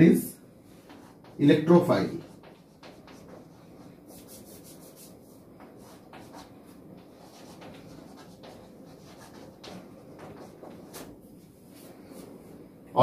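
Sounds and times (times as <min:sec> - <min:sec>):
chalk scratching on blackboard: 0:00.8 - 0:12.3.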